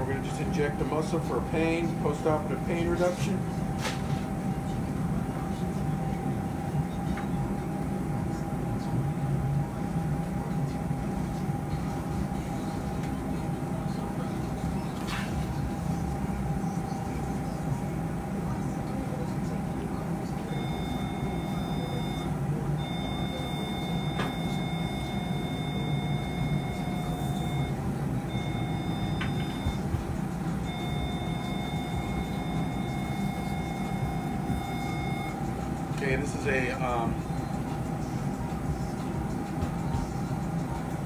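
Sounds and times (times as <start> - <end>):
electrosurgical generator tone: 0.0 - 41.0.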